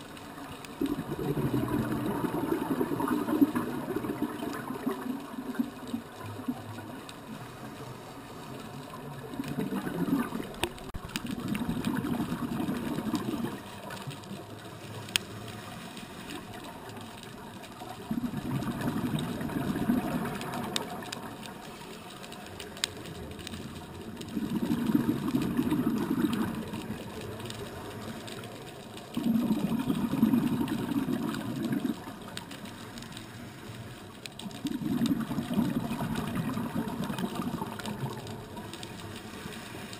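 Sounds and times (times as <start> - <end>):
underwater exhaled bubbles rumbling: 0.1 - 39.9.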